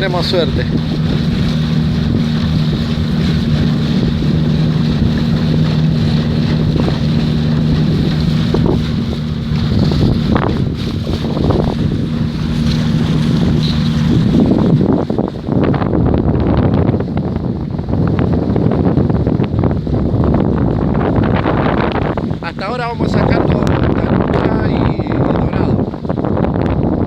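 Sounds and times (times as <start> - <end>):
boat motor droning: 0.0 - 27.0
wind buffeting microphone: 0.0 - 27.0.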